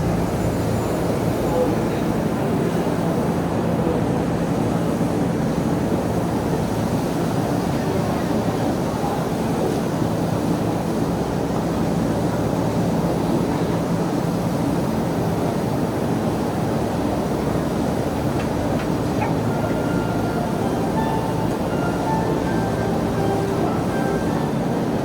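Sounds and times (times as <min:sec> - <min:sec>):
train wheels and motors rumbling: 0:00.0 - 0:25.0.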